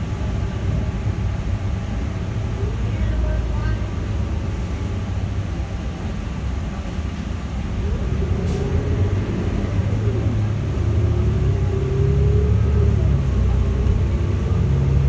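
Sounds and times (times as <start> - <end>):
bus engine rumble: 0.0 - 15.0
bus engine whine: 0.0 - 15.0.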